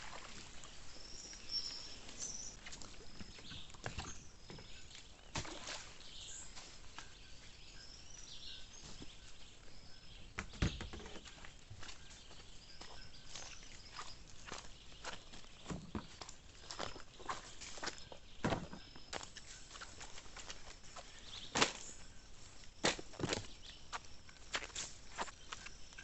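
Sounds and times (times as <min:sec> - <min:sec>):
faint water: 0:00.0 - 0:26.0
birds chirping: 0:00.1 - 0:26.0.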